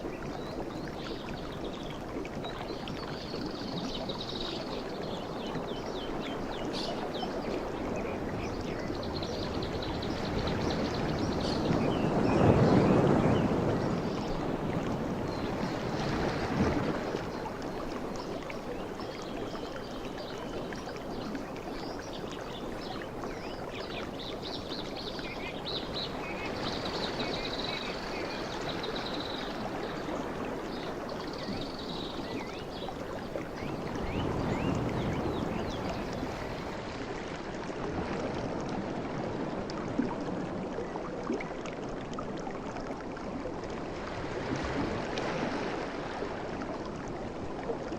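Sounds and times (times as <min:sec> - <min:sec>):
sea waves washing onto shore: 0:00.0 - 0:47.9.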